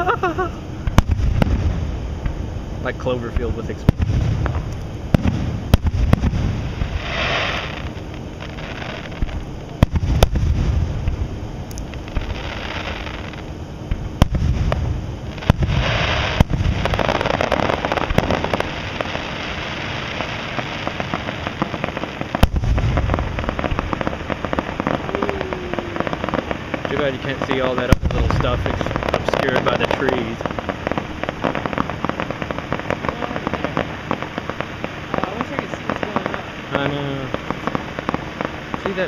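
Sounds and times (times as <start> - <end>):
dense firework crackling: 0.0 - 39.0
firework shells booming: 0.0 - 39.0
fireworks hissing: 0.0 - 39.0.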